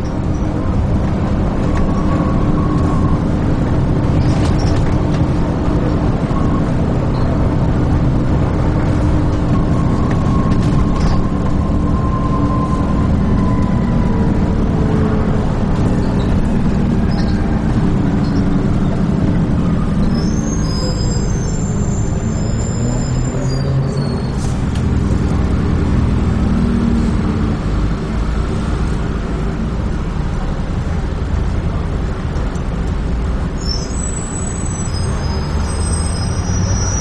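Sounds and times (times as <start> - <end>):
bus engine drone: 0.0 - 37.0
road rumble: 0.0 - 37.0.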